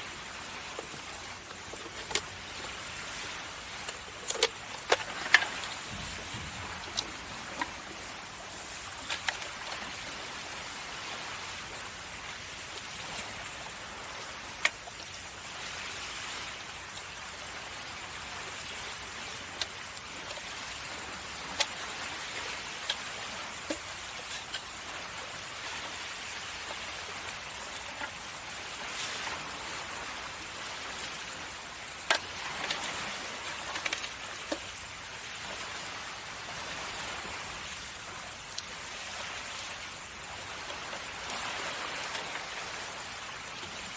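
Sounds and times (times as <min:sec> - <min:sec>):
sea waves: 0:00.0 - 0:43.9.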